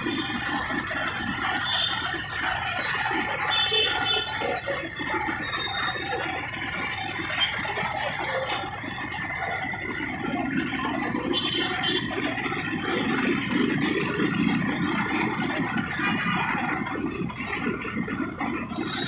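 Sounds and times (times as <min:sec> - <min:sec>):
motorbikes running: 0:00.0 - 0:19.0
road and wind noise: 0:00.0 - 0:19.0
scooter engine: 0:00.0 - 0:19.0.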